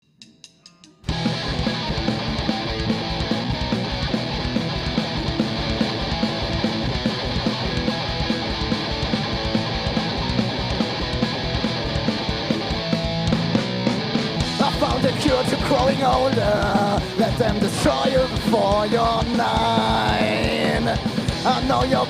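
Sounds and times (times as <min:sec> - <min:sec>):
distorted electric guitar strumming: 0:01.0 - 0:22.0
driving drums and bass: 0:01.0 - 0:22.0.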